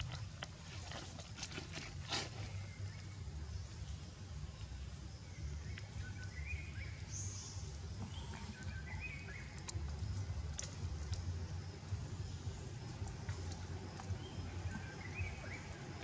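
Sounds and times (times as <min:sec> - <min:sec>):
steady low rumble: 0:02.5 - 0:16.0.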